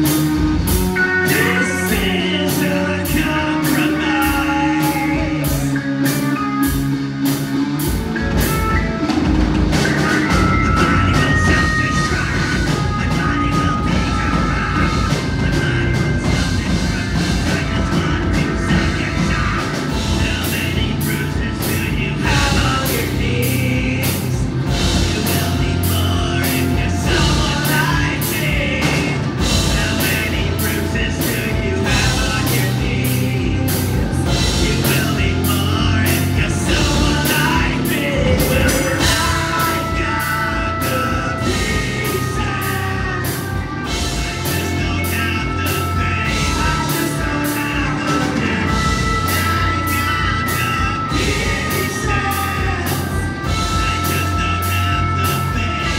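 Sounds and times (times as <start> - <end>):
live rock band playing: 0.0 - 55.9
singer's vocals: 0.0 - 55.9.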